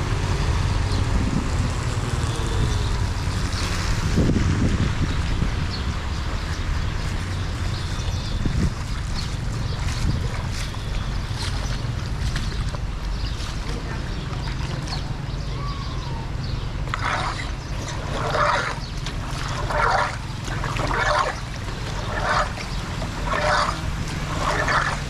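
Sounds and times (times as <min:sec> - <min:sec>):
steady low rumble: 0:00.0 - 0:25.0
water splashing in even strokes: 0:00.0 - 0:25.0.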